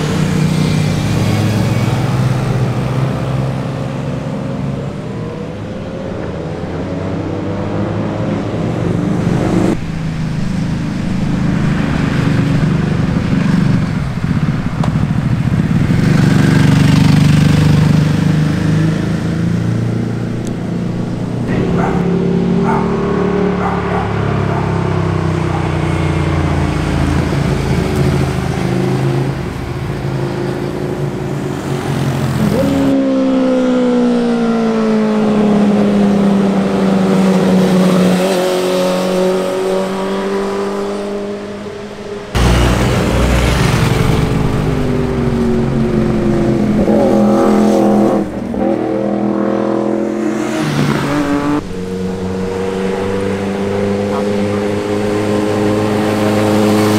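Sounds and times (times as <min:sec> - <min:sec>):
motorcycle engines revving: 0:00.0 - 0:56.9
motorcycles passing: 0:00.0 - 0:56.9.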